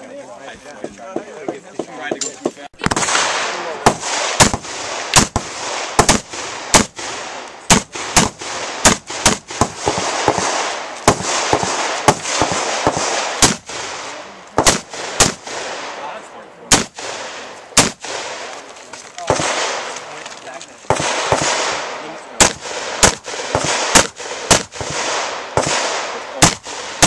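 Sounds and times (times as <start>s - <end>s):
rifle shots: 2.8s - 18.6s, 19.2s - 20.1s, 20.8s - 27.0s.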